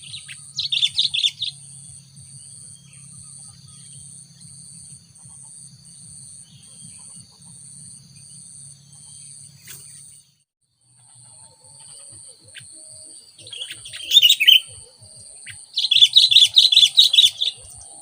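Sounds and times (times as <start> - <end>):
faint bird chirps: 0.0 - 18.0
insects trilling: 0.0 - 18.0.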